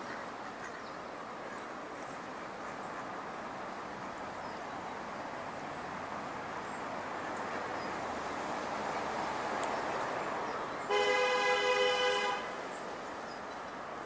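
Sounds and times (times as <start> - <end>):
road traffic hiss: 0.0 - 14.0.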